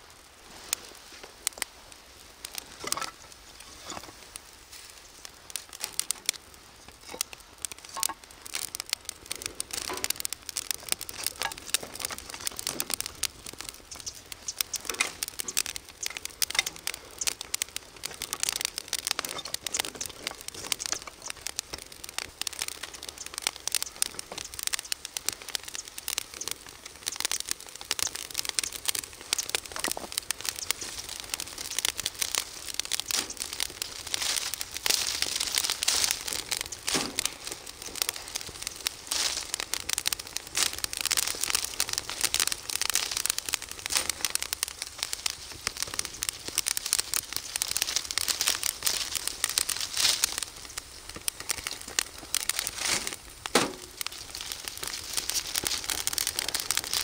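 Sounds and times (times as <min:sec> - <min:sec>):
leaves and kindling crackling in fire: 0:00.0 - 0:57.0.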